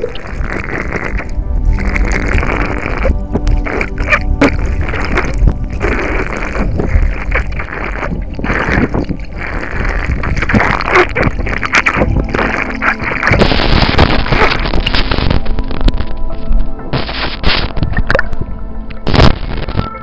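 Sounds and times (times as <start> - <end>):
muffled water sloshing: 0.0 - 19.6.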